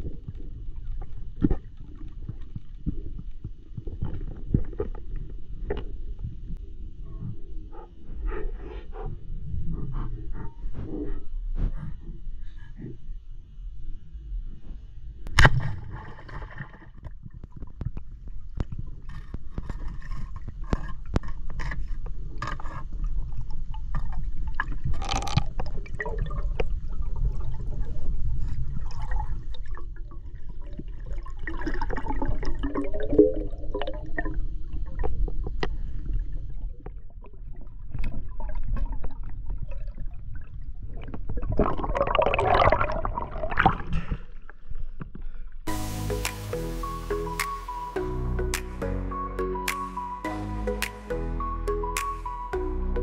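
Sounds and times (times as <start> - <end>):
water gurgling and sloshing: 0.0 - 46.2.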